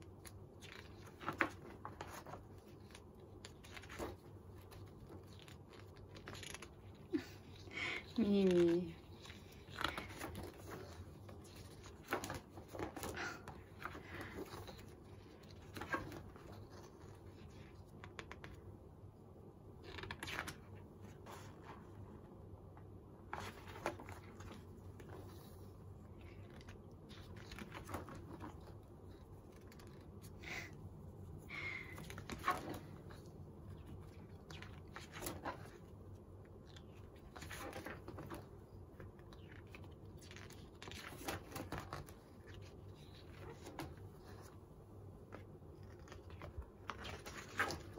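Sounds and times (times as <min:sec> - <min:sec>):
pages being turned: 0:00.1 - 0:18.6, 0:19.8 - 0:22.0, 0:23.2 - 0:30.7, 0:31.7 - 0:35.9, 0:36.6 - 0:44.6, 0:45.2 - 0:47.9.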